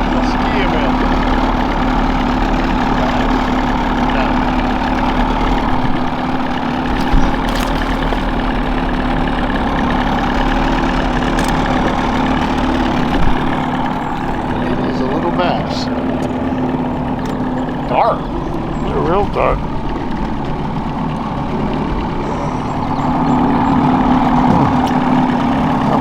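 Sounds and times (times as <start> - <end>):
boat motor running: 0.0 - 26.0.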